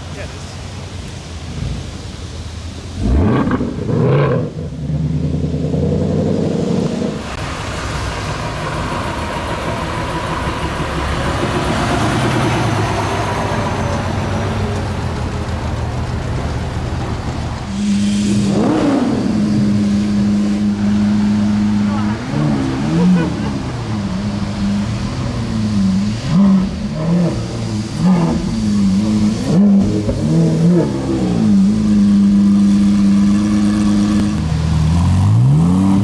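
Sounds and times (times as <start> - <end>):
car engines revving: 0.0 - 36.0
road noise: 0.0 - 36.0.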